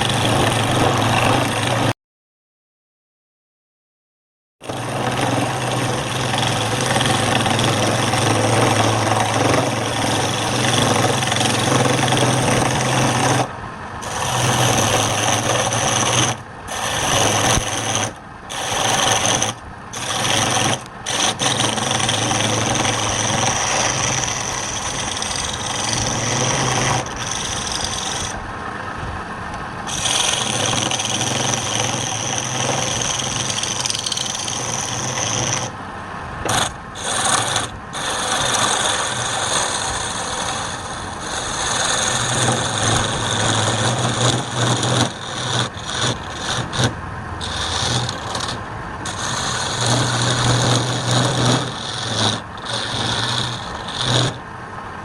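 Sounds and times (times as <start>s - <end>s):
lathe motor hum: 0.0s - 1.9s, 4.6s - 55.0s
cutting tool scraping spinning wood: 0.0s - 2.0s, 4.6s - 28.4s, 29.8s - 35.8s, 36.4s - 54.6s.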